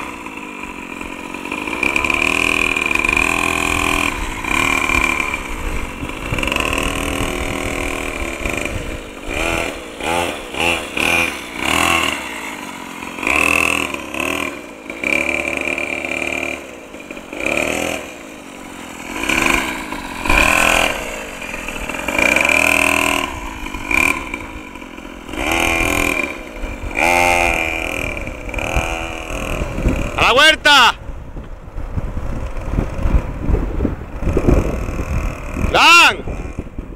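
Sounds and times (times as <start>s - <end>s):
motocross bike engine revving: 0.0s - 36.9s.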